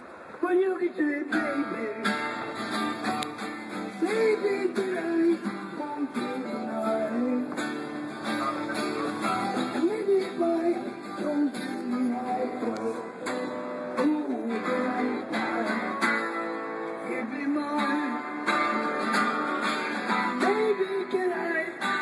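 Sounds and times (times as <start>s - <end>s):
man singing: 0.4s - 2.6s, 3.7s - 22.0s
strummed acoustic guitar: 1.0s - 22.0s.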